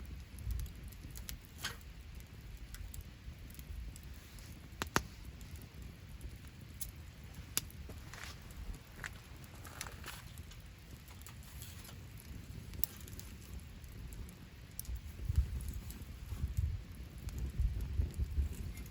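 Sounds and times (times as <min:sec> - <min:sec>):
campfire crackling: 0:00.0 - 0:18.9
low steady rumble: 0:00.0 - 0:18.9
sharp pops from fire: 0:00.0 - 0:18.9.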